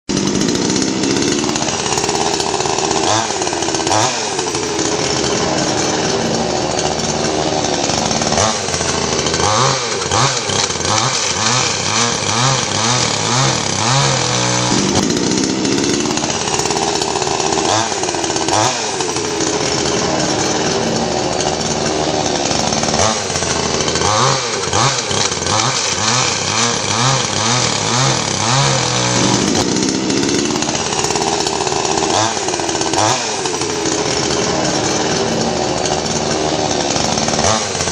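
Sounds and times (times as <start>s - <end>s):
chainsaw engine revving: 0.1s - 37.9s.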